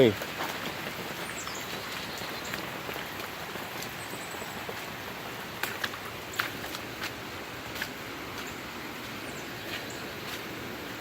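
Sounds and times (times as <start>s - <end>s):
sharp raindrop taps: 0.0s - 10.6s
heavy rain falling: 0.0s - 11.0s
rainwater running off: 0.0s - 11.0s.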